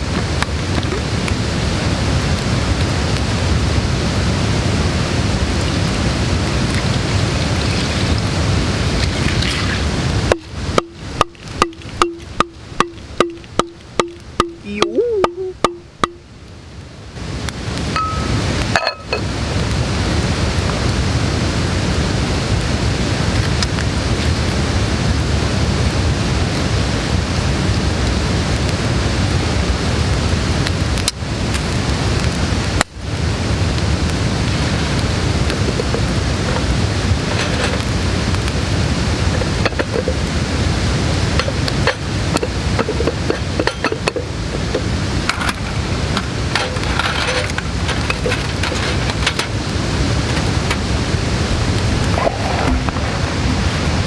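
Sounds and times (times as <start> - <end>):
campfire hissing: 0.0 - 54.0
fire crackles: 0.0 - 54.0.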